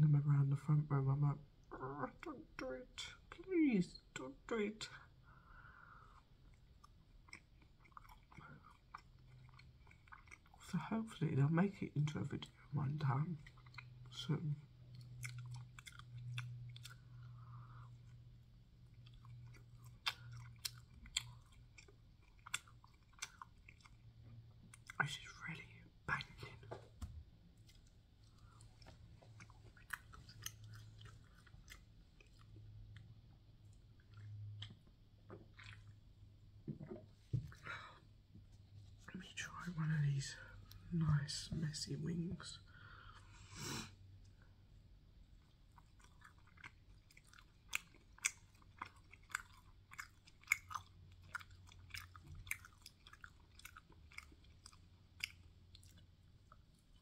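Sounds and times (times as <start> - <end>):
faint chewing: 4.8 - 39.6, 42.7 - 57.0.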